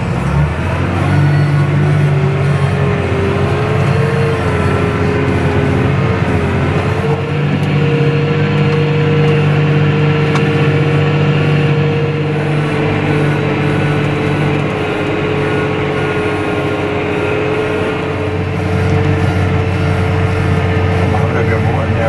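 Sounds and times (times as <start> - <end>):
steady whine: 0.0 - 22.0
tractor diesel engine under load: 0.0 - 22.0.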